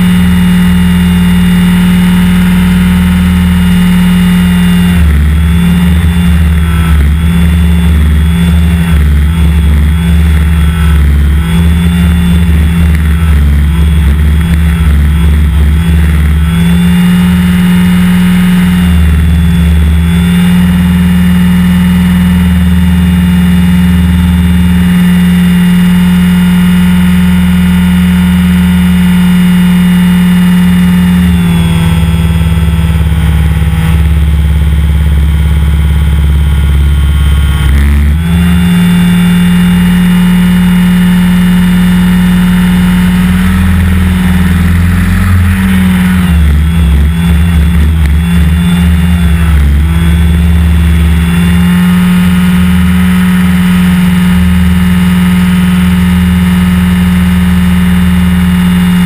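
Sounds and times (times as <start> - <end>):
electric helicopter motor whine: 0.0 - 59.0.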